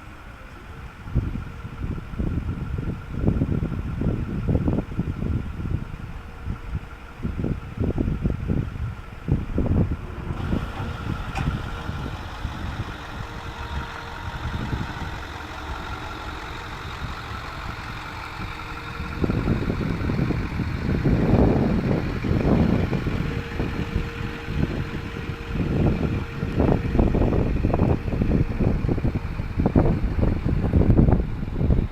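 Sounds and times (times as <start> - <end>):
truck engine idling: 0.0 - 31.9.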